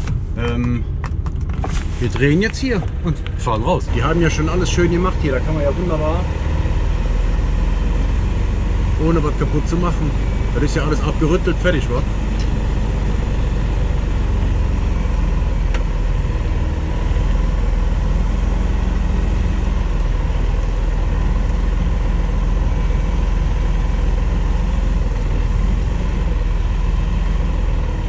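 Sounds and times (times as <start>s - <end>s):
truck engine low drone: 0.0s - 28.0s.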